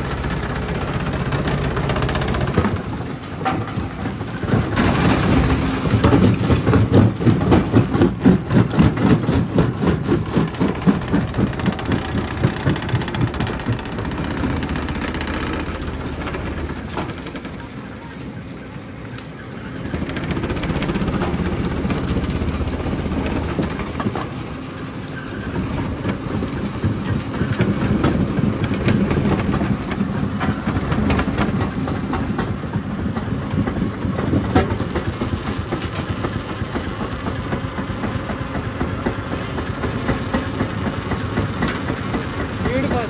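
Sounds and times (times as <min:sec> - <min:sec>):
jaw crusher machine rumble: 0:00.0 - 0:43.0.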